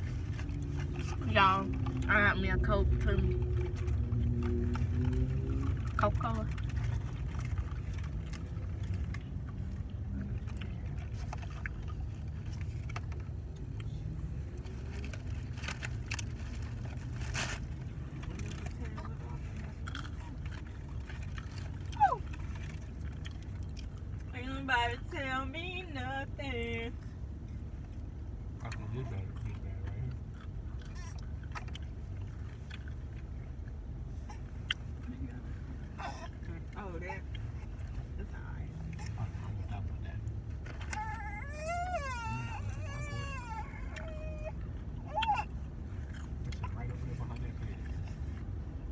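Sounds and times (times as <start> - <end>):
food being handled and chewed: 0.0 - 2.1, 3.1 - 24.3, 27.0 - 36.5, 38.9 - 48.9
car engine idling: 0.0 - 48.9.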